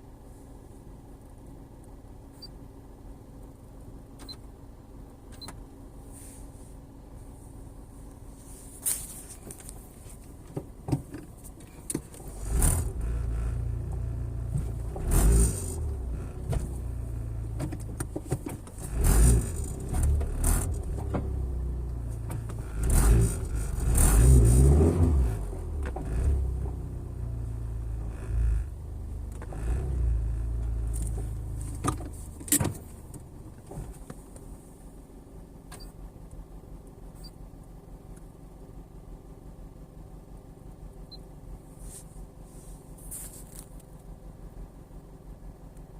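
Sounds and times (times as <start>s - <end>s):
car cabin rumble: 0.0s - 45.9s.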